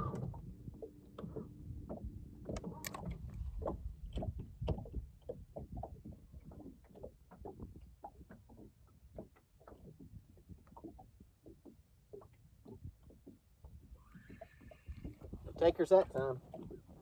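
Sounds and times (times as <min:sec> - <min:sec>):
small waves slapping boat hull: 0:00.0 - 0:17.0.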